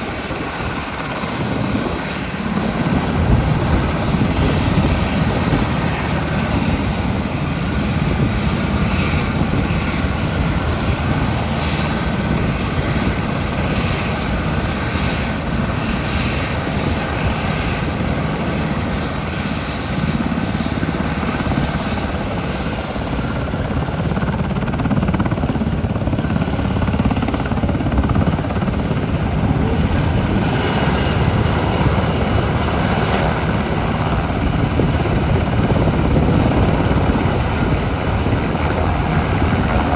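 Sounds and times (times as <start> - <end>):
helicopter rotor chop: 0.0 - 39.9.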